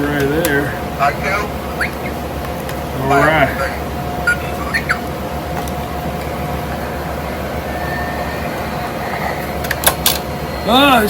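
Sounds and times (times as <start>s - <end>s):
low hum: 0.0s - 11.0s
steady background hiss: 0.0s - 11.0s.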